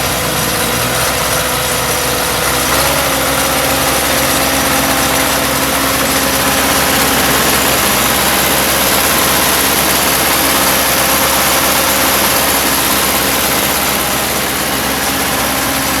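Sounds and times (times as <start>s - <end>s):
backhoe engine idling: 0.0s - 16.0s.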